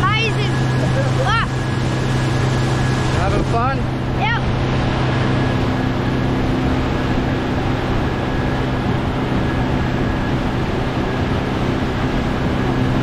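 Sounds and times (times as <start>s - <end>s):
outboard motor running: 0.0s - 13.0s
rushing water: 0.0s - 13.0s
wind: 0.0s - 13.0s.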